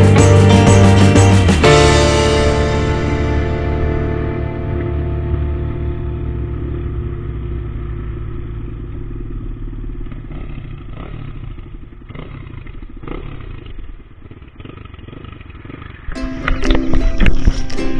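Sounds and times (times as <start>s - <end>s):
motorcycle engine slowing: 0.0s - 17.9s.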